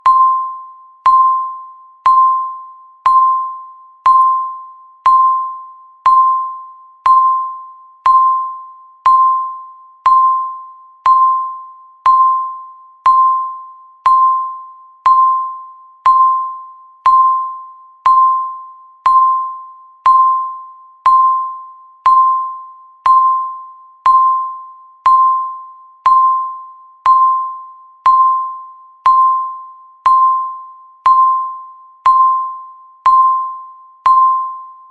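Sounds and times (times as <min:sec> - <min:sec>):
high electronic timer beep: 0:00.0 - 0:34.9.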